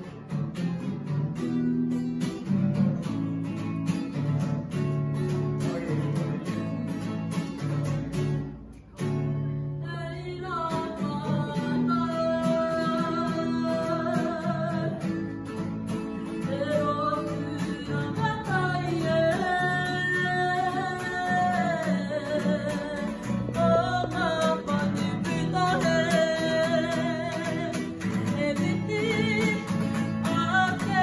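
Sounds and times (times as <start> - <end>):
strummed acoustic guitar: 0.0 - 31.0.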